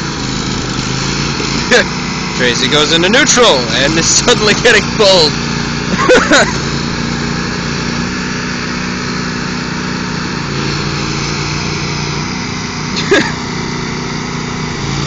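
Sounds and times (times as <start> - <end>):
lawn tractor engines running: 0.0 - 15.0.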